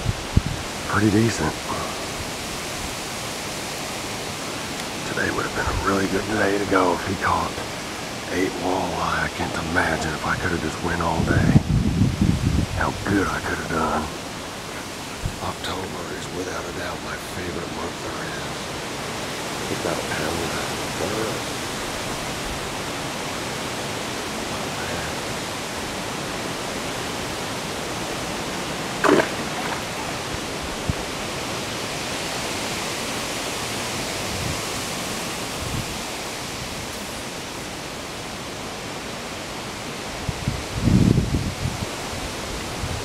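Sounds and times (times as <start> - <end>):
creek water flowing: 0.0 - 43.0.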